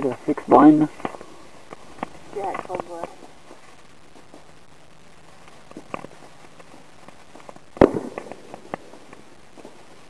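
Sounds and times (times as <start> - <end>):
fireworks popping and crackling: 0.0 - 10.0.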